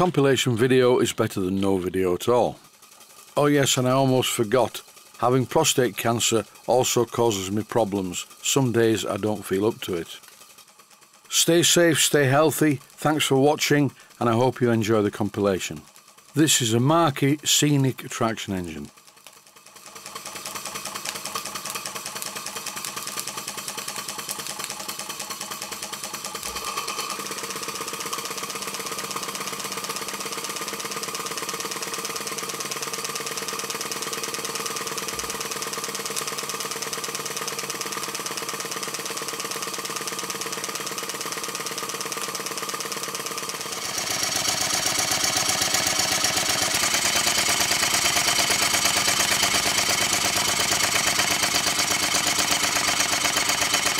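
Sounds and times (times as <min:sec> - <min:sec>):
model steam engine running: 0:00.0 - 0:53.9
stationary steam engine running: 0:00.0 - 0:53.9.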